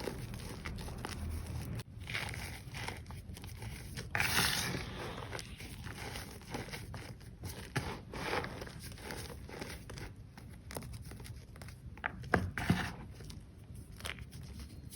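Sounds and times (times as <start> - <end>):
chalk crunching and crumbling: 0.0 - 14.9.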